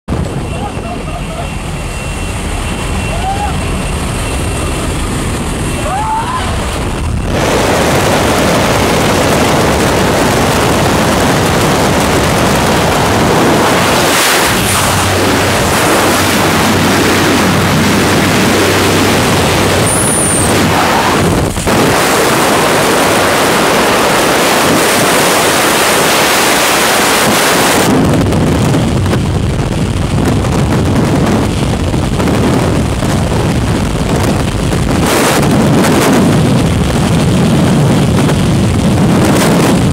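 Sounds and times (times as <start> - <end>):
low steady drone: 0.1 - 39.9
wind rushing over microphone: 0.1 - 39.9.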